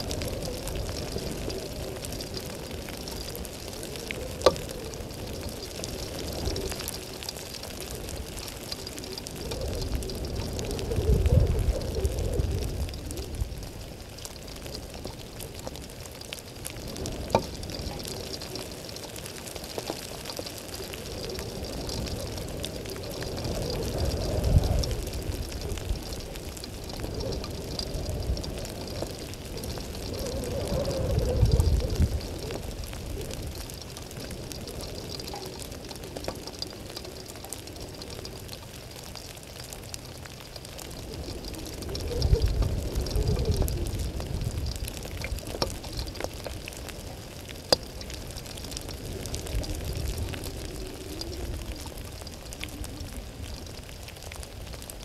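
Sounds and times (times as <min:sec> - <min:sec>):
low rain rumble: 0:00.0 - 0:55.0
raindrops ticking: 0:00.0 - 0:55.0
steady rain falling: 0:00.0 - 0:55.0.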